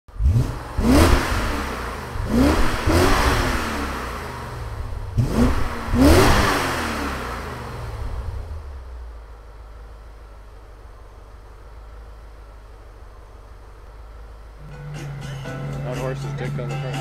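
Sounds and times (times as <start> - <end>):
car engine revving: 0.1 - 17.0.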